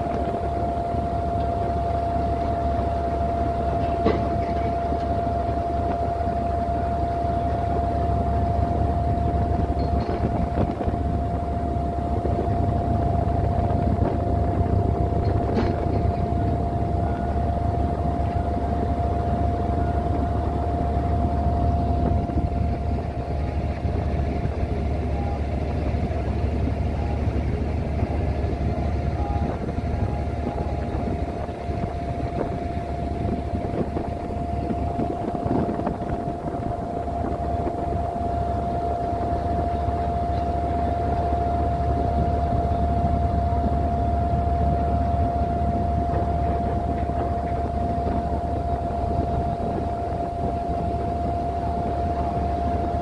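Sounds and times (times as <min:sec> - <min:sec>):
boat engine droning with whine: 0:00.0 - 0:53.0.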